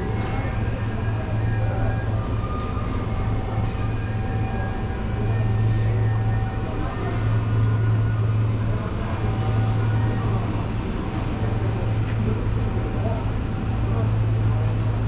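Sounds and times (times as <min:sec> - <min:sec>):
refrigeration machinery hum: 0:00.0 - 0:15.0.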